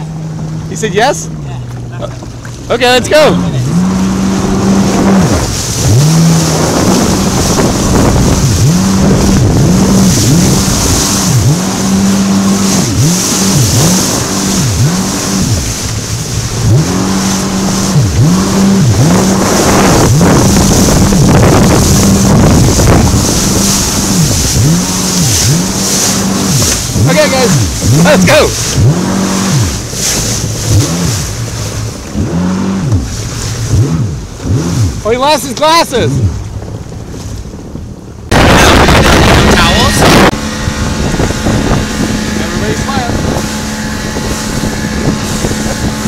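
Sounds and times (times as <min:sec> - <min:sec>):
jet ski engine running: 0:00.0 - 0:46.0
rushing water: 0:00.0 - 0:46.0
wind: 0:00.0 - 0:46.0.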